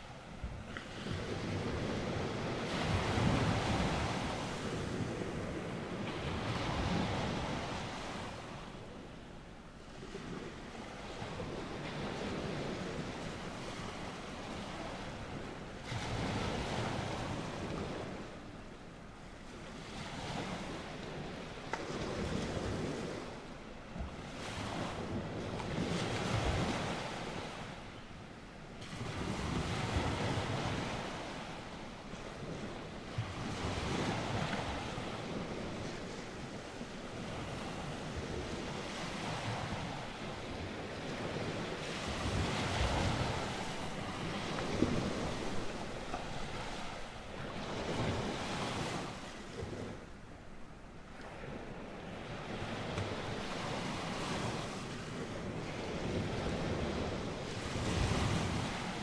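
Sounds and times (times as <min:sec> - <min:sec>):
ocean waves washing in: 0:00.0 - 0:59.0.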